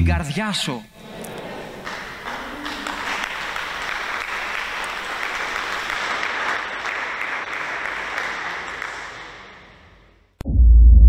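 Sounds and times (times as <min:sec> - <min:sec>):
congregation applauding: 0:01.3 - 0:10.2.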